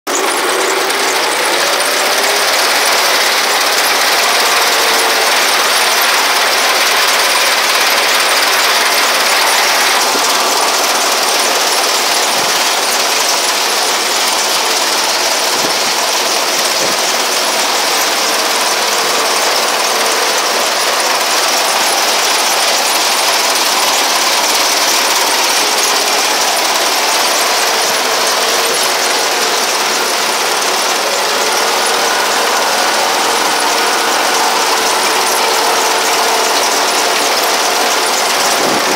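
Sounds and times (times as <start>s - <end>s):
tractor engine running: 0.0s - 38.9s
harvester rattling: 0.1s - 38.9s.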